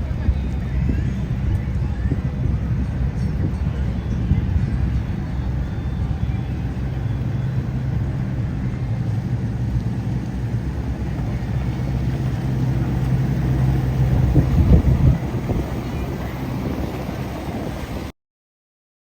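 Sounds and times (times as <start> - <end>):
held hum: 0.0 - 18.1
low engine rumble: 0.0 - 18.1.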